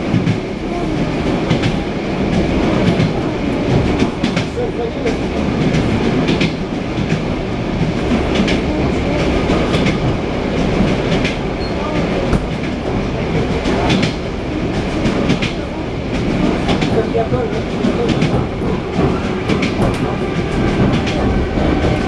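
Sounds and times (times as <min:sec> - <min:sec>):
train wheels clattering over rail joints: 0:01.2 - 0:22.0.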